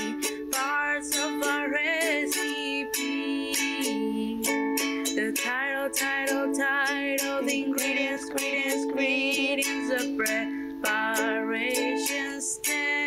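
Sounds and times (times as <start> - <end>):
person singing: 0.0 - 13.0
plucked-string accompaniment: 0.0 - 13.0.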